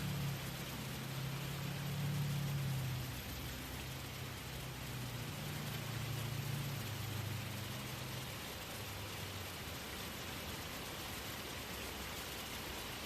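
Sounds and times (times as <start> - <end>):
low droning hum: 0.0 - 12.5
waterfall rushing: 0.0 - 13.0.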